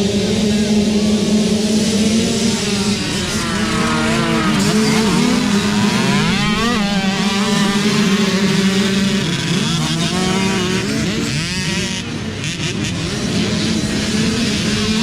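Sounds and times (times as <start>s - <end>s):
dirt bike engine steady: 0.0s - 15.0s
dirt bike engines revving: 0.0s - 15.0s.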